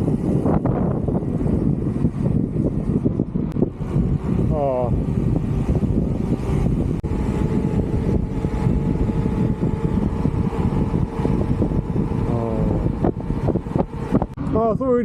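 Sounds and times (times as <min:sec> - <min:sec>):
faint vehicle drive whine: 0:00.0 - 0:15.0
wind buffeting microphone: 0:00.0 - 0:15.0.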